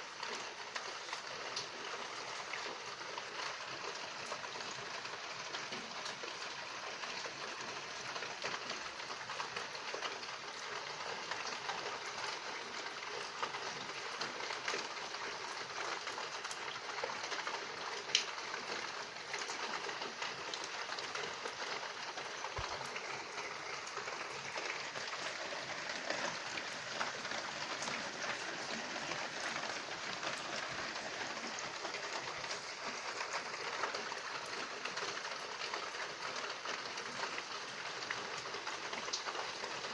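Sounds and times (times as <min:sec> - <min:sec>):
steady rain falling: 0:00.0 - 0:39.9
raindrop ticks: 0:00.1 - 0:39.9.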